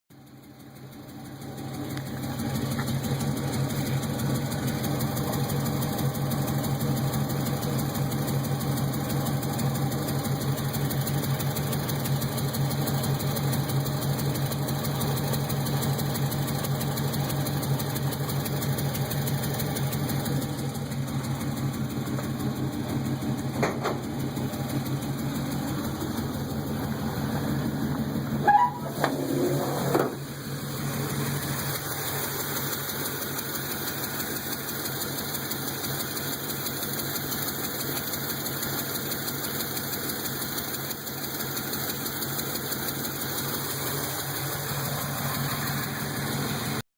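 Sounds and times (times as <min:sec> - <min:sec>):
engine idling: 0:00.1 - 0:46.8
leaking exhaust pulsing: 0:01.3 - 0:46.8.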